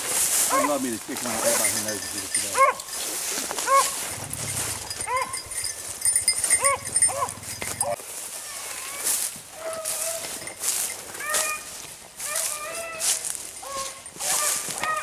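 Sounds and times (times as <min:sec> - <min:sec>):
dogs barking and baying: 0:00.0 - 0:15.0.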